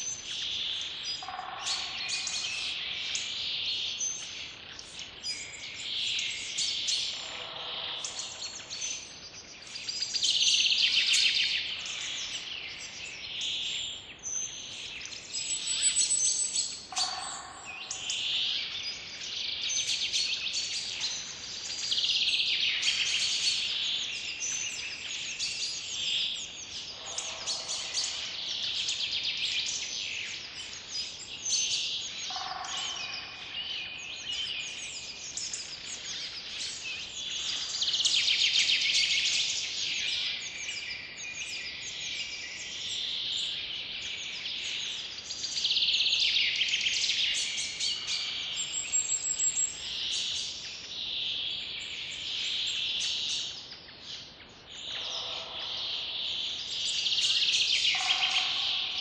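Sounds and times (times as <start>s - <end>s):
birds singing and chirping: 0.0s - 59.0s.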